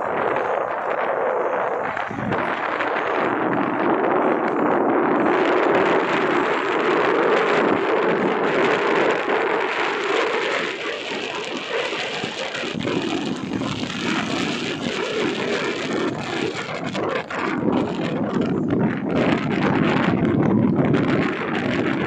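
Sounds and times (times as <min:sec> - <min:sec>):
vehicle road noise: 0:00.0 - 0:22.0
wind buffeting microphone: 0:00.0 - 0:22.0.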